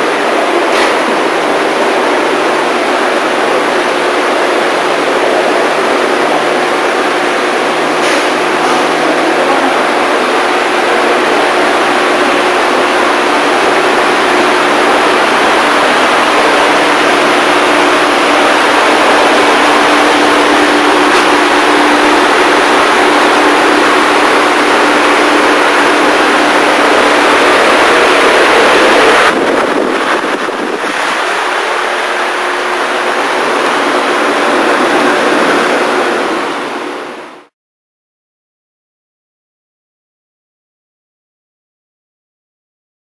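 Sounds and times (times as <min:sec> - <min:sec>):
loud machinery noise: 0:00.0 - 0:37.5.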